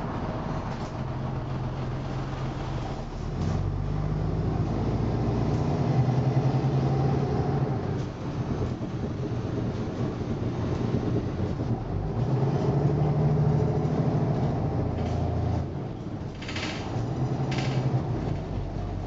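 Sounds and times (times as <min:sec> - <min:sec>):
bus engine and running gear: 0:00.0 - 0:19.0.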